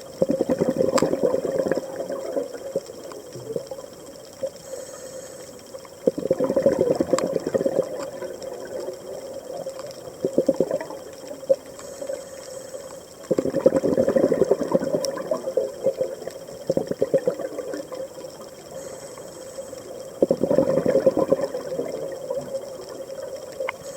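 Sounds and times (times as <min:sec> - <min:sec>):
underwater regulator bubbling: 0:00.0 - 0:04.9, 0:05.6 - 0:23.9
steady faint hum: 0:00.0 - 0:23.9.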